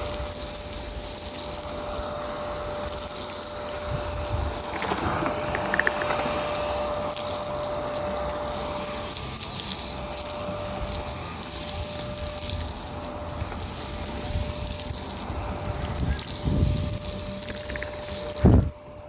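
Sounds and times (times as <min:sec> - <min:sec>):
grit crackling in vacuum: 0:00.0 - 0:19.0
vacuum cleaner whining: 0:00.0 - 0:19.0.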